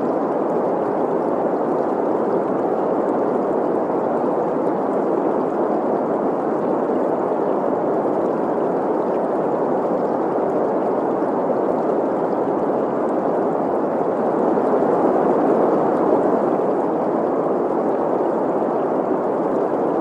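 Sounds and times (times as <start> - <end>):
flowing stream: 0.0 - 20.0.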